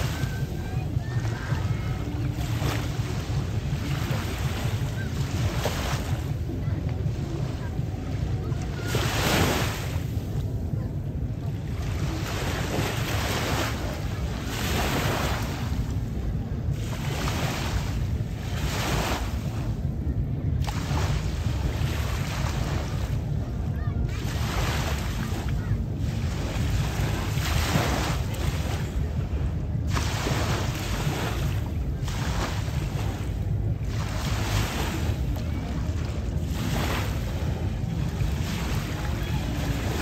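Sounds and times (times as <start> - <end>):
water splashing in surges: 0.0 - 40.0
wind rumble on microphone: 0.0 - 40.0.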